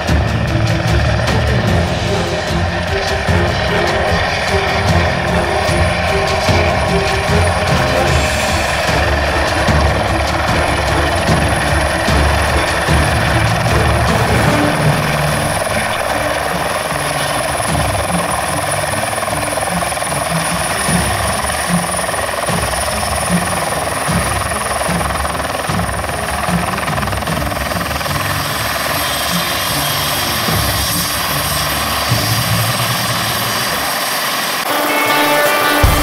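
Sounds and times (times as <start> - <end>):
helicopter rotor chop: 0.0 - 36.0
helicopter turbine whine: 0.0 - 36.0.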